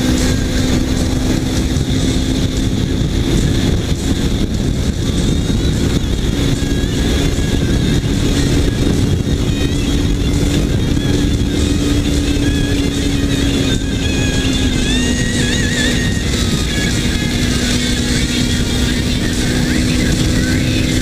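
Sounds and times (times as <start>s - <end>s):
heavy wind noise: 0.0s - 21.0s
motorcycle engine cruising: 0.0s - 21.0s
road rumble: 0.0s - 21.0s.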